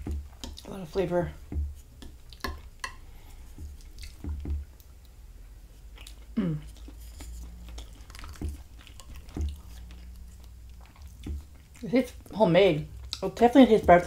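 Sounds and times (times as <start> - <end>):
person chewing: 1.8 - 13.3.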